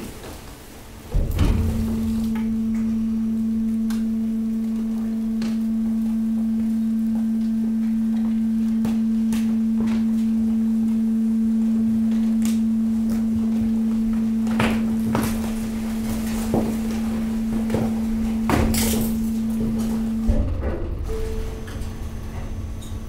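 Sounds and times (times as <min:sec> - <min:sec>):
hydraulic pump humming: 0:00.5 - 0:23.0.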